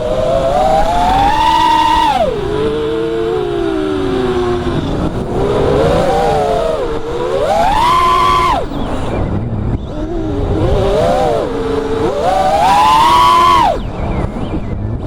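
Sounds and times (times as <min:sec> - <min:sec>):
rushing air noise: 0:00.0 - 0:14.8
quadcopter motors whining: 0:00.0 - 0:15.0.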